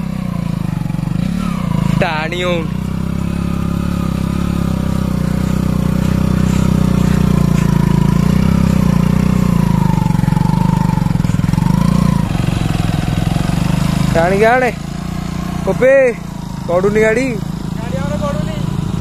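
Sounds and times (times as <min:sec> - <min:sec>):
motorcycle engine revving: 0:00.0 - 0:19.0
wheel spinning in sand: 0:00.0 - 0:19.0.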